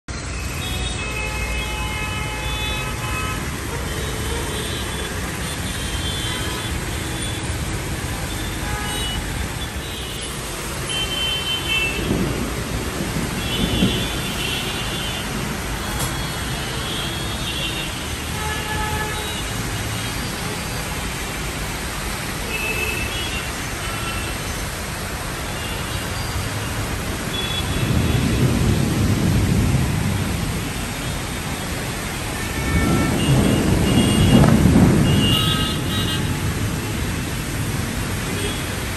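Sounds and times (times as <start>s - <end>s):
heavy rain: 0.1s - 38.9s
wet road traffic noise: 0.1s - 38.9s.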